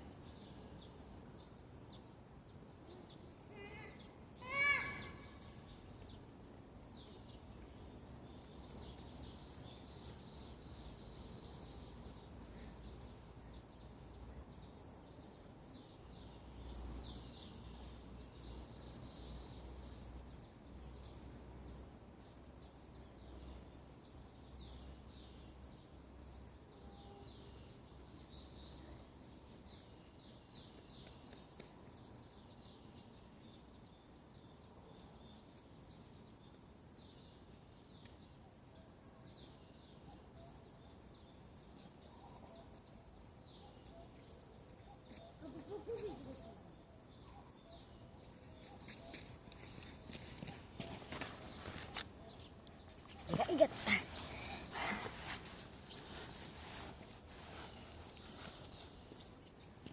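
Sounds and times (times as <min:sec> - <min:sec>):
faint songbirds chirping: 0:00.0 - 0:59.9.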